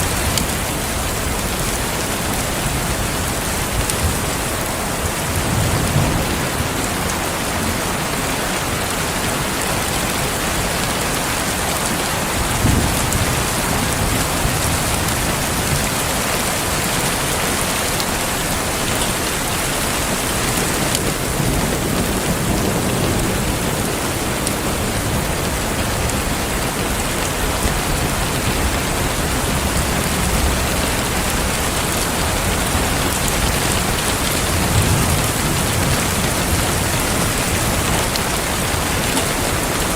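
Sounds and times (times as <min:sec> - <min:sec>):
distant thunder rumbles: 0:00.0 - 0:39.9
heavy rain falling: 0:00.0 - 0:39.9.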